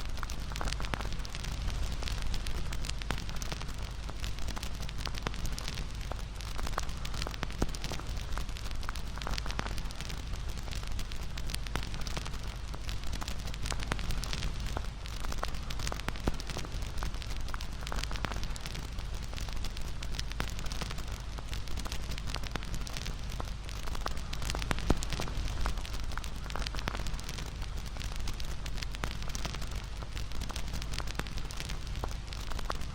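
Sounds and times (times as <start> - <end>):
campfire crackling and popping: 0.0 - 32.9
low flame noise: 0.0 - 32.9.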